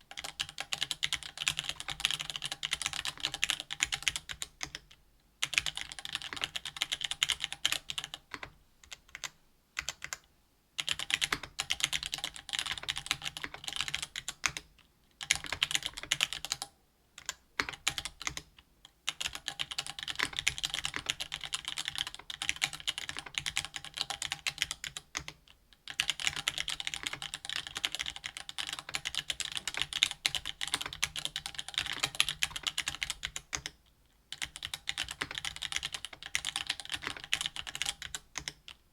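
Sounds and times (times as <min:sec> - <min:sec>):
mechanical keyboard typing: 0:00.1 - 0:18.5, 0:19.1 - 0:38.8.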